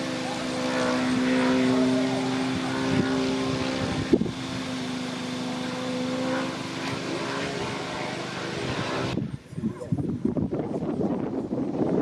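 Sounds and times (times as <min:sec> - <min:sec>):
model plane engine and propeller: 0:00.0 - 0:12.0.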